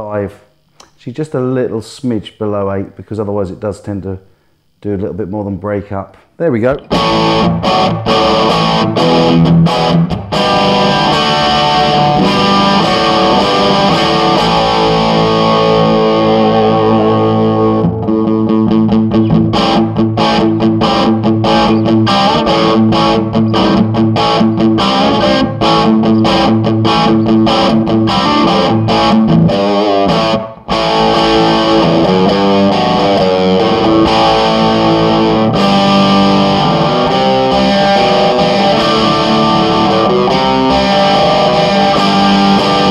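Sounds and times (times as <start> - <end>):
overdriven electric guitar: 6.8 - 42.9.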